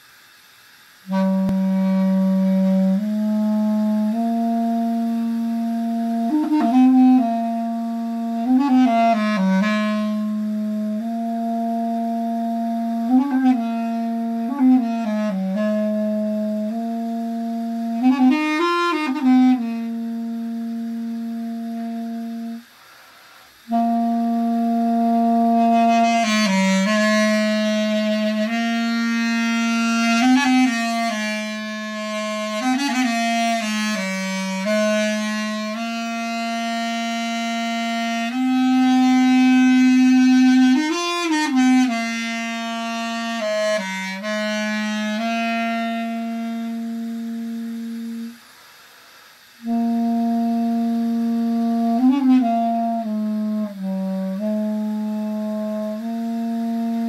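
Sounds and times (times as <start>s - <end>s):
duduk playing slow melody: 1.1s - 22.7s, 23.7s - 48.4s, 49.4s - 57.0s.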